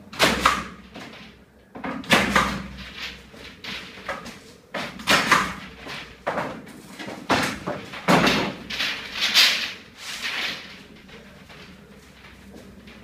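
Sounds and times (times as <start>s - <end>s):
plastic pipe rustling and scraping: 0.8s - 13.0s.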